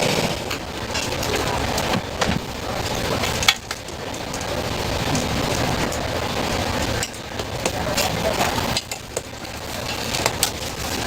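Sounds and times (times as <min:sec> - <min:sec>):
frying sizzle: 0:00.0 - 0:11.0
voices: 0:00.0 - 0:11.0.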